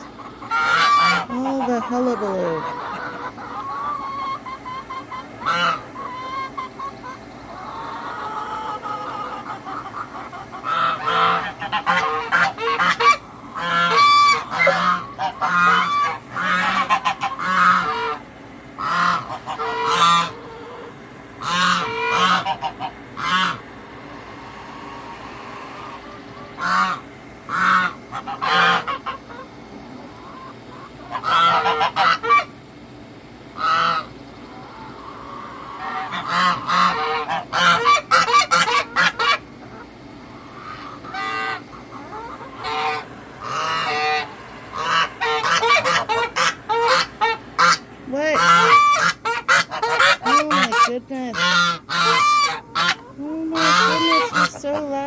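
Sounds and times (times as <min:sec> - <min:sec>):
geese honking: 0:00.0 - 0:32.7, 0:33.5 - 0:55.0.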